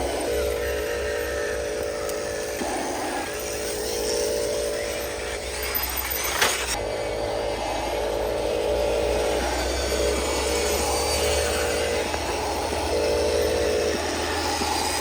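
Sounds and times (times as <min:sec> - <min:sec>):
toy truck drivetrain whine: 0:00.0 - 0:15.0.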